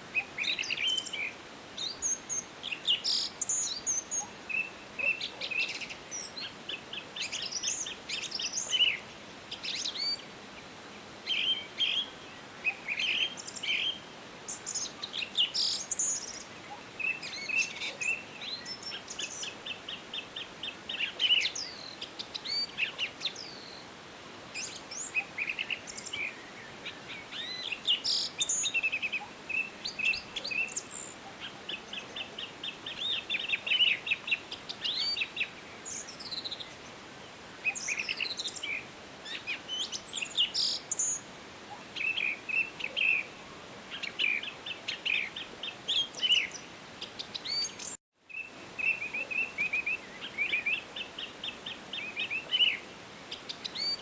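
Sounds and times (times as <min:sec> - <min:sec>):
faint steady hiss: 0:00.0 - 0:54.0
songbirds singing and calling: 0:00.0 - 0:54.0.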